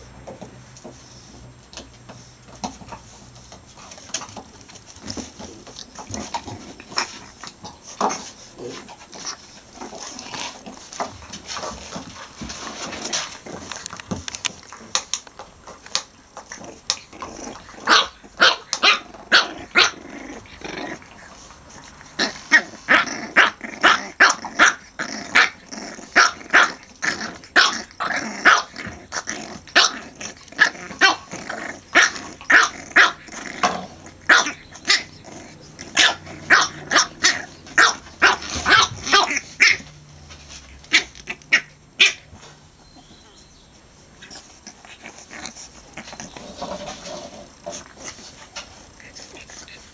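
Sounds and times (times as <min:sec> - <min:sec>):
puppies growling: 0:00.0 - 0:49.9
puppies yapping and barking: 0:00.0 - 0:49.9.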